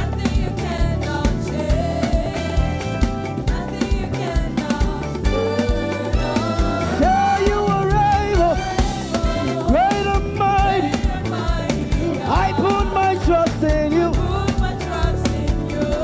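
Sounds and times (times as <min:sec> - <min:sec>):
band playing upbeat groove: 0:00.0 - 0:16.0
voices singing: 0:00.0 - 0:16.0.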